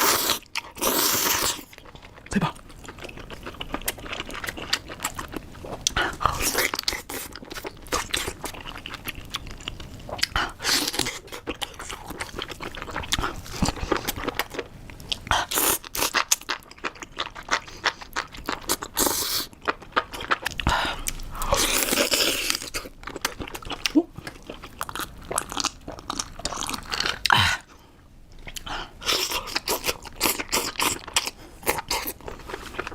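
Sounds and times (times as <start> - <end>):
person chewing crunchy food: 0.0 - 32.9.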